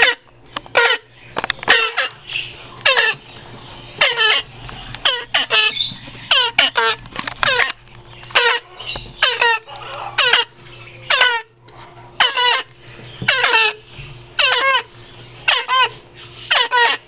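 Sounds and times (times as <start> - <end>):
parrot chicks begging calls: 0.0 - 17.0.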